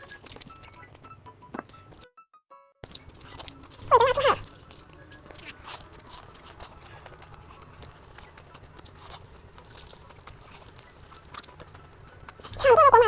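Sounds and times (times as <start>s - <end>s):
mouth chewing clicks and smacks: 0.0s - 1.0s, 2.8s - 13.0s.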